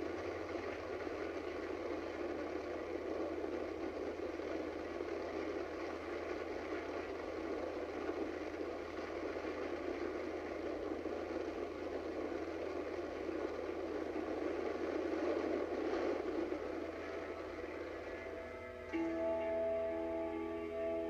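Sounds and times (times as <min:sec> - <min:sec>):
muffled rushing freefall wind: 0:00.0 - 0:18.6.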